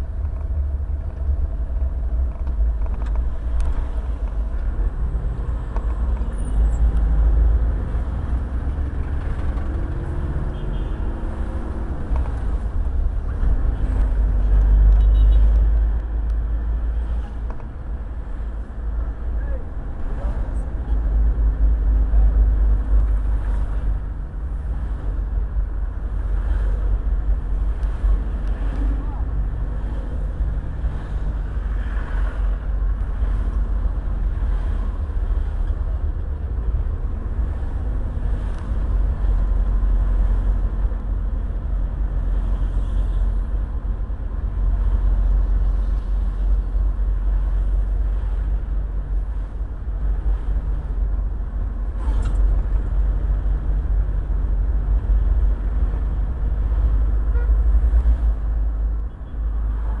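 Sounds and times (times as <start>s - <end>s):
engine and road rumble: 0.0s - 60.0s.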